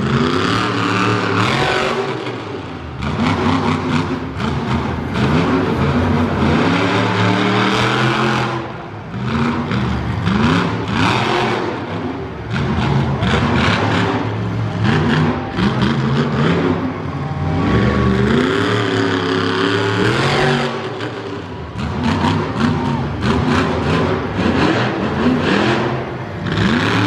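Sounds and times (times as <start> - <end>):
truck engine revving hard: 0.0 - 27.0.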